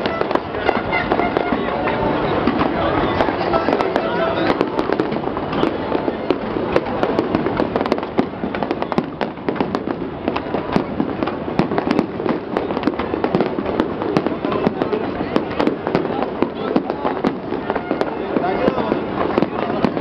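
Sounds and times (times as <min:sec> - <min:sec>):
fireworks bangs and crackles: 0:00.0 - 0:20.0
fireworks rumble: 0:00.0 - 0:20.0.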